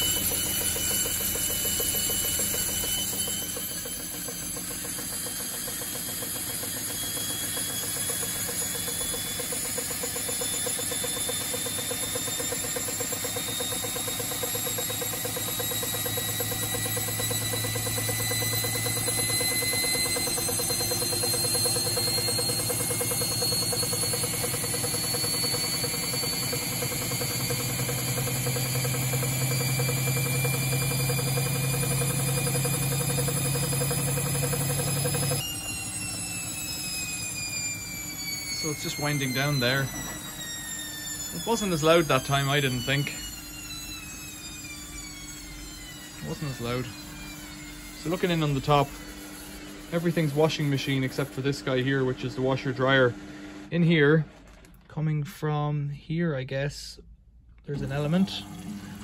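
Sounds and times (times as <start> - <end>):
motor whine rising in pitch: 0.0 - 54.9, 56.1 - 59.0
washer dryer motor hum: 0.0 - 55.8, 57.0 - 59.0.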